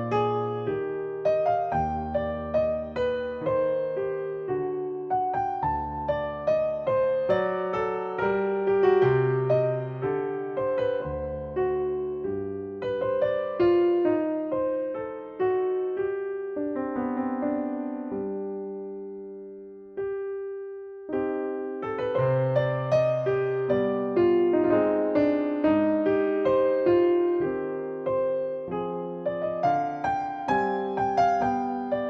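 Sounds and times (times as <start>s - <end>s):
slow piano music: 0.0s - 32.0s.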